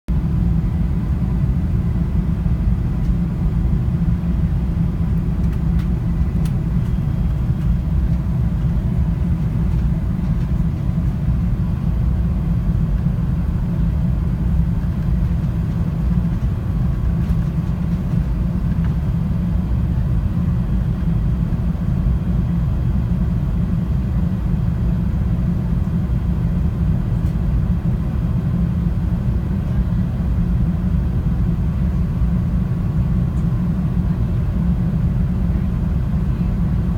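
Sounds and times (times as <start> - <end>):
airliner cabin engine rumble: 0.1 - 36.9.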